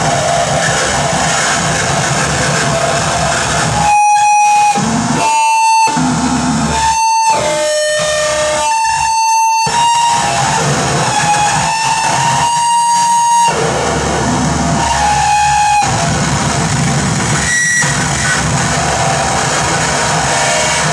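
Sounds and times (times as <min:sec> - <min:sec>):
amplified noise music: 0:00.0 - 0:20.9
high feedback whine: 0:00.0 - 0:20.9
lower tone: 0:02.6 - 0:20.9.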